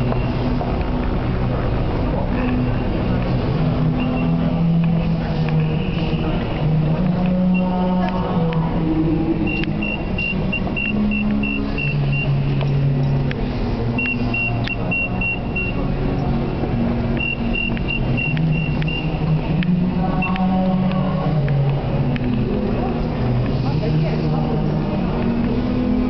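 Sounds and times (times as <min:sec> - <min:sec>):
station rumble and hum: 0:00.0 - 0:26.0.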